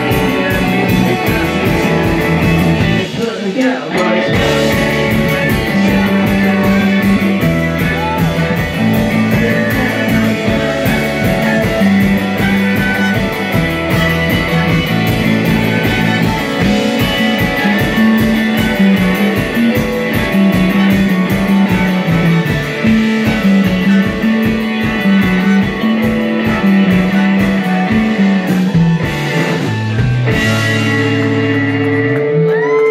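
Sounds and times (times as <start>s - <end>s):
steady drum beat: 0.0s - 32.8s
bass notes: 0.0s - 32.9s
electric guitars: 0.0s - 32.9s.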